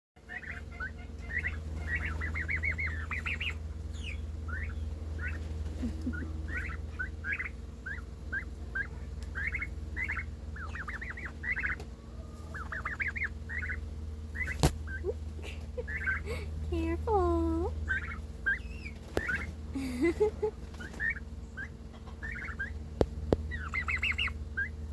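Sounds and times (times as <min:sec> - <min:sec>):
steady low hum: 0:00.2 - 0:24.9
turkeys chirping: 0:00.2 - 0:24.9.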